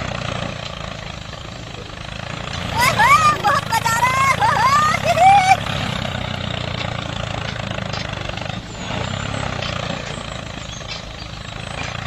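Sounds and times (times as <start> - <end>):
small tractor engine chugging: 0.0 - 12.0.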